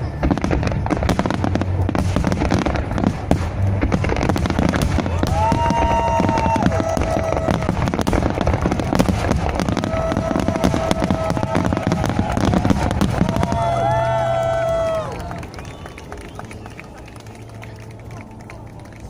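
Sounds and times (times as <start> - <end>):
firework whistling: 0.0 - 17.3
fireworks bursting and crackling: 0.0 - 19.0.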